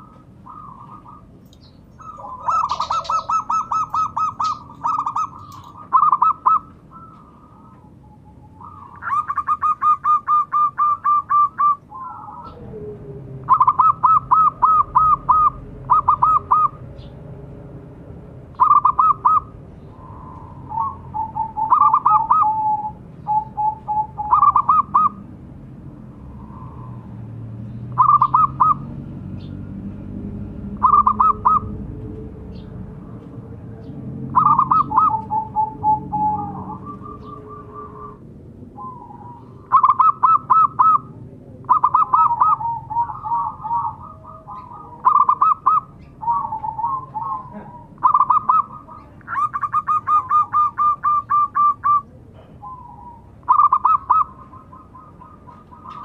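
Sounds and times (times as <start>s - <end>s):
dove cooing: 0.0s - 17.1s, 18.6s - 25.3s, 28.0s - 28.9s, 30.6s - 31.9s, 33.8s - 56.0s.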